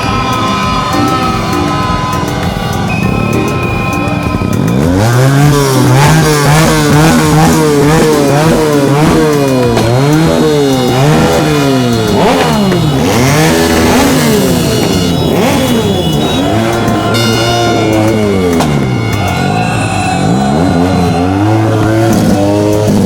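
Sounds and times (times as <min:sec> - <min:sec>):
motorbike engine revving: 0:00.0 - 0:23.0.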